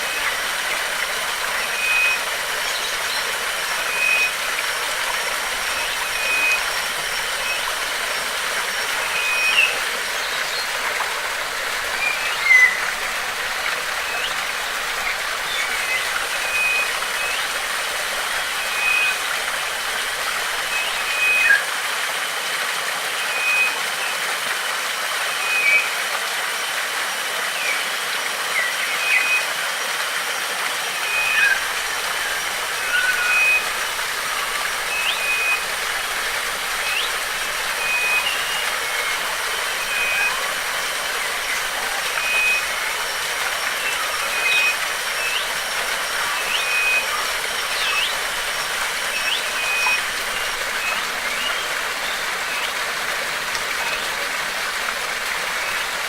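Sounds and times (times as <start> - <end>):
birds calling: 0.0 - 21.6, 31.0 - 56.0
flowing water rushing: 0.0 - 56.0.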